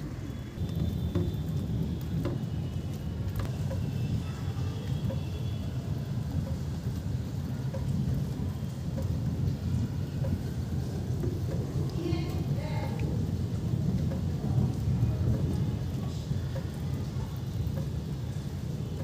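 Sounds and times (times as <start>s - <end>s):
light rain on concrete: 0.0s - 19.0s
sharp drip clicks: 0.6s - 19.0s.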